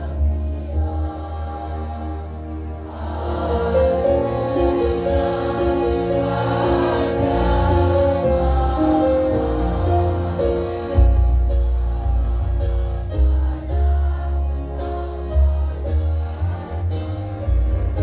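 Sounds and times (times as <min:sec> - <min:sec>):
steady low bass: 0:00.0 - 0:18.0
women's choir singing: 0:00.0 - 0:18.0.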